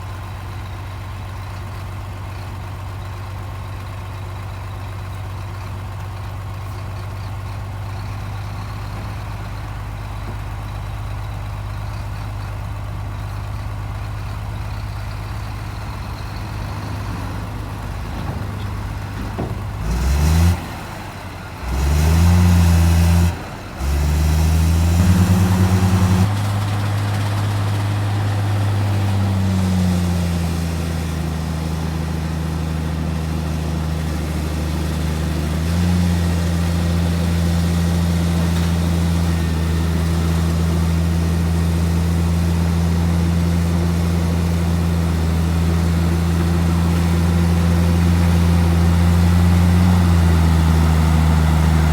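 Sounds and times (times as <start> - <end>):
heavy diesel engine idling and revving: 0.0 - 51.9.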